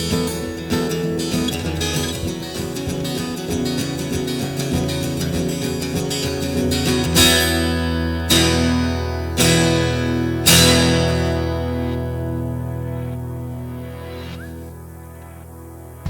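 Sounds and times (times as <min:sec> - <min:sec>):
acoustic guitar strumming: 0:00.0 - 0:16.0
guitar chords ringing out: 0:00.0 - 0:16.0.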